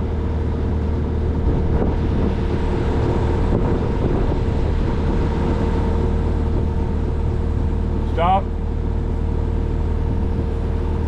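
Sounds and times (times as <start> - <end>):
skid steer engine droning: 0.0 - 11.0.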